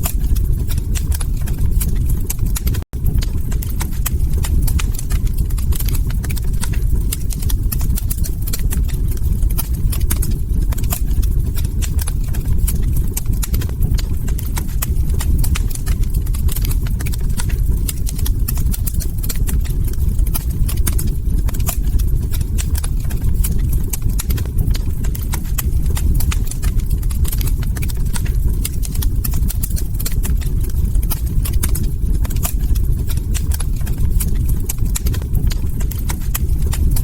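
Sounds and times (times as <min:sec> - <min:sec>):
log fire crackling: 0:00.0 - 0:37.0.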